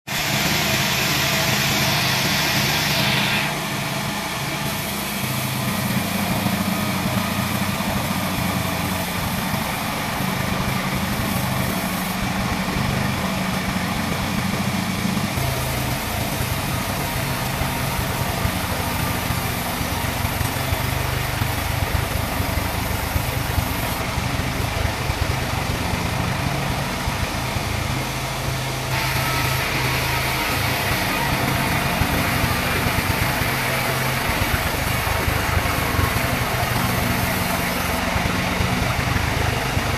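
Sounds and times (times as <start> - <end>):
engine drone: 0.0 - 39.9
bandsaw cutting log: 0.1 - 39.9.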